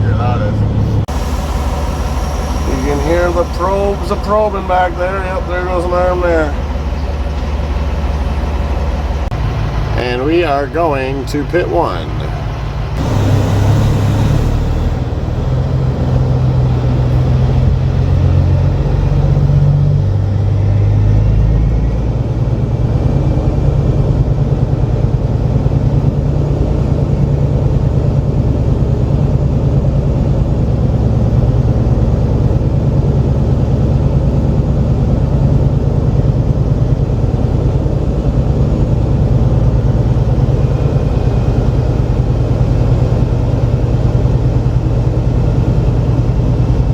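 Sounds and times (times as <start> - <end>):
truck diesel engine pulling: 0.0 - 46.9.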